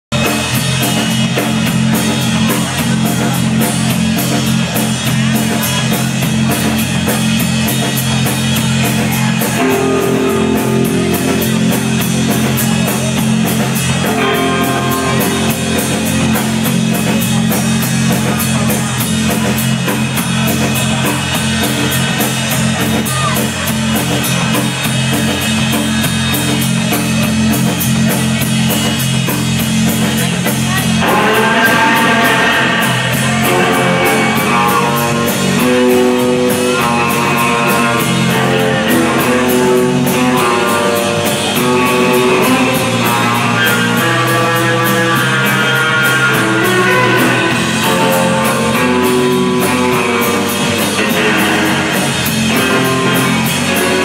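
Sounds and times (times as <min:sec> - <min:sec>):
drum kit beat: 0:00.1 - 0:54.0
electric guitars: 0:00.1 - 0:54.0.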